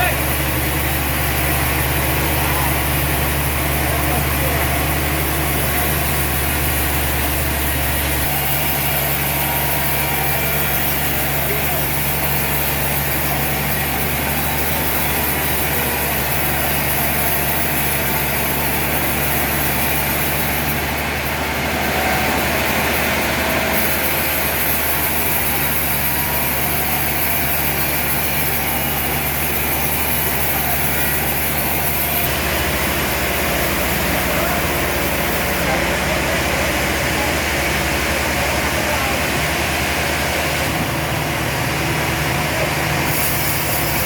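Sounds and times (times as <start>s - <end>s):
sawmill machinery drone: 0.0s - 44.0s.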